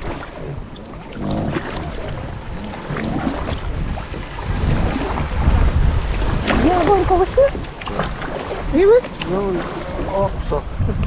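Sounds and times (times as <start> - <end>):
oars splashing in water: 0.0 - 11.0
wind rumble on microphone: 0.0 - 11.0.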